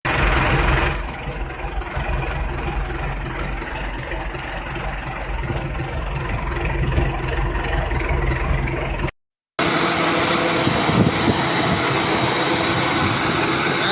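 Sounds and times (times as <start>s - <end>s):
tractor engine running: 0.0s - 13.9s.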